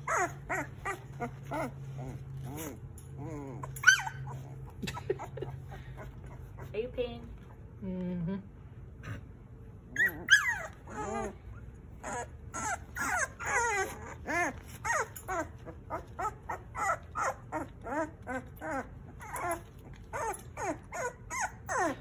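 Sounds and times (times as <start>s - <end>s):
puppies whimpering: 0.0s - 6.8s, 9.9s - 22.0s.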